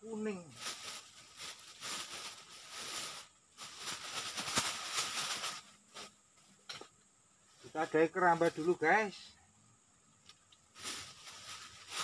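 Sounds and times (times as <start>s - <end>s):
crackling rustling noise: 0.4s - 8.8s, 10.1s - 12.0s.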